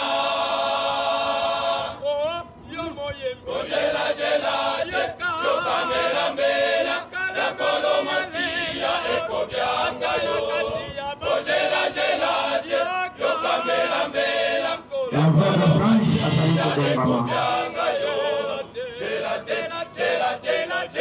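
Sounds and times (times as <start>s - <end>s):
choir singing unaccompanied: 0.0s - 2.0s, 3.4s - 21.0s.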